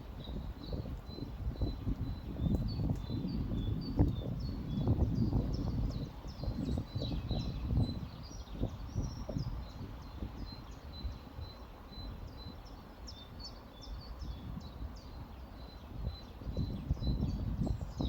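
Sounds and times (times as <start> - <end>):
small birds chirping and singing: 0.0 - 18.0.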